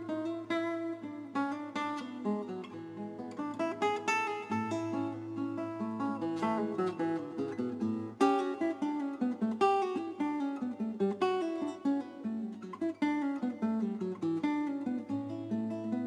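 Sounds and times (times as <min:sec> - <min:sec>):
acoustic guitar plucked notes: 0:00.0 - 0:16.0.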